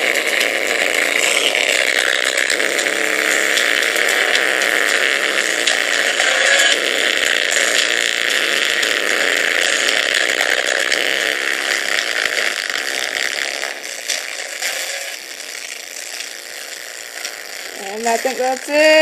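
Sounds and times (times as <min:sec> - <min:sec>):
harsh distorted speaker buzzing: 0:00.0 - 0:19.0.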